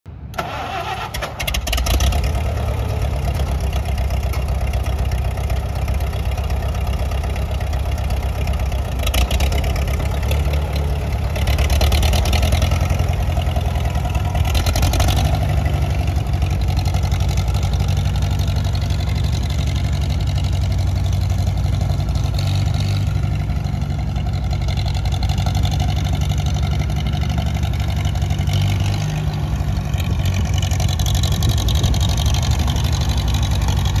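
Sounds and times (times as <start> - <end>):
tractor engine droning: 0.1 - 34.0.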